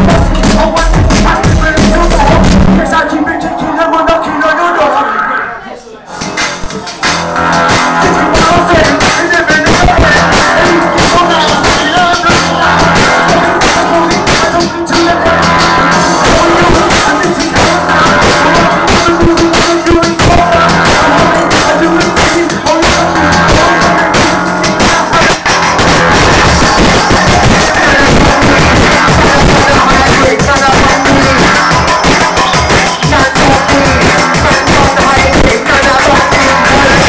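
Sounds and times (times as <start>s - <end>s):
loud music with steady beat: 0.0s - 37.0s.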